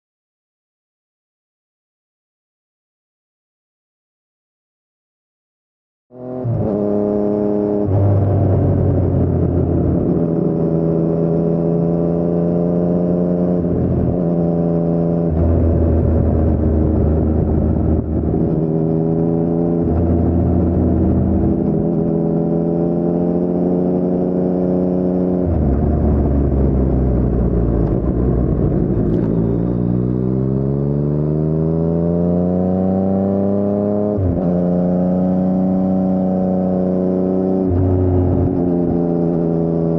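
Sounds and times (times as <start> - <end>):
motorcycle engine revving: 6.1 - 39.9.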